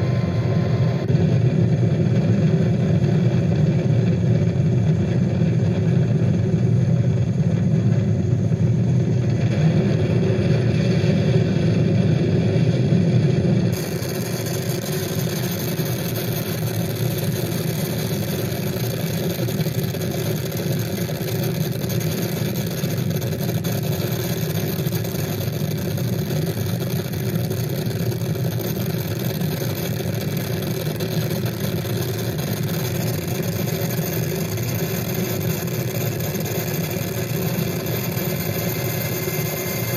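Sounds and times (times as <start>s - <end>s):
engine drone with hiss: 0.0s - 39.9s
steady hum tones: 0.0s - 39.9s
thinner engine drone: 0.0s - 39.9s.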